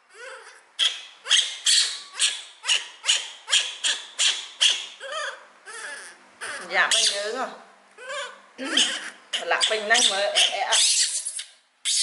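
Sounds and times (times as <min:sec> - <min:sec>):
baby monkey crying: 0:00.0 - 0:07.4, 0:08.0 - 0:12.0.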